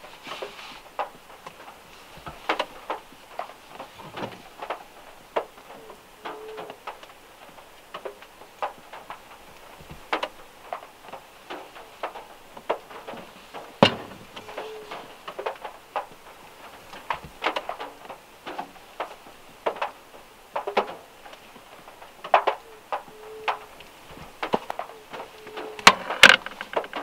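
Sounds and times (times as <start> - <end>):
raindrops tapping on car roof: 0.0 - 27.0.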